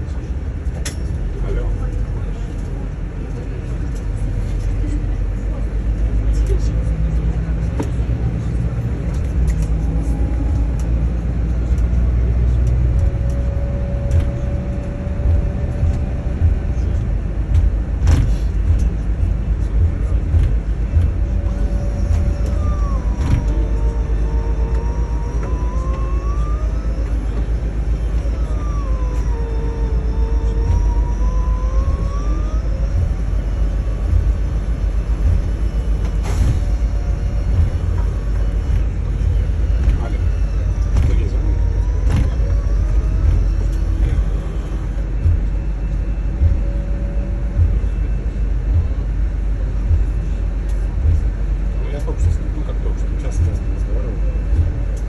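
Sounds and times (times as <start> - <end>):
bus engine rumble: 0.0 - 55.0
steady whine: 0.0 - 55.0.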